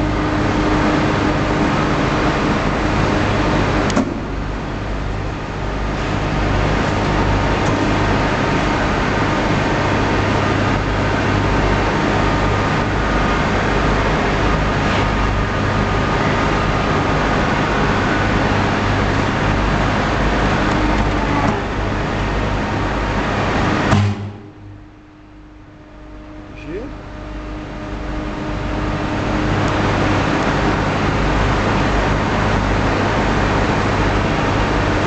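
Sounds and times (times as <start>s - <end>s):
hydraulic power pack running: 0.0s - 35.0s.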